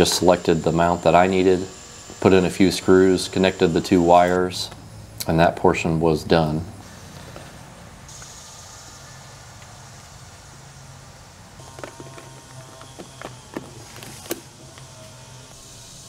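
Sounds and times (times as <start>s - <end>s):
faint high hiss: 0.0s - 16.0s
outdoor background hum: 0.0s - 16.0s.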